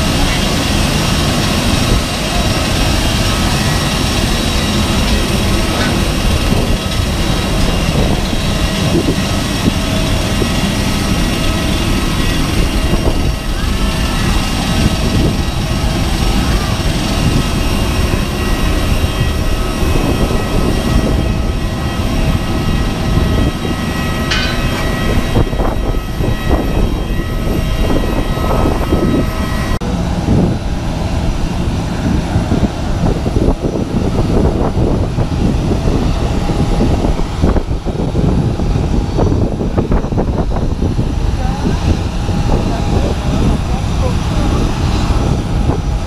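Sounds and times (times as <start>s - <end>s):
high whine of aircraft machinery: 0.0s - 46.0s.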